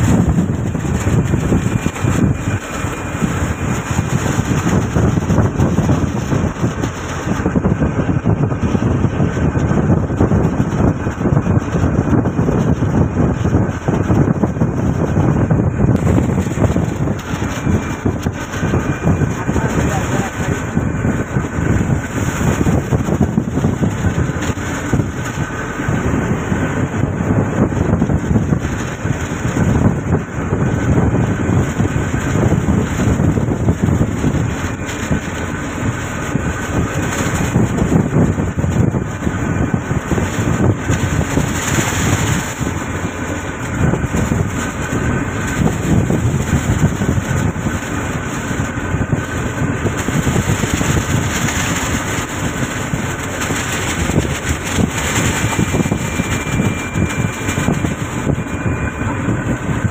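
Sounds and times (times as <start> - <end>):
boat engine rumble: 0.0 - 59.9
rough sea wash: 0.0 - 59.9
wind: 0.0 - 59.9.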